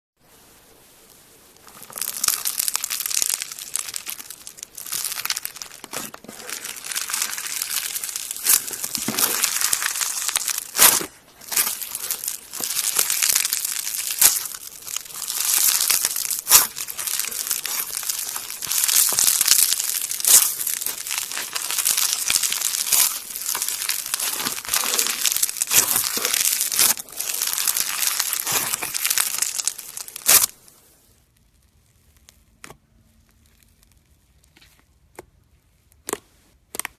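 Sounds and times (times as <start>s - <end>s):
slime crackling and popping: 1.6s - 36.9s.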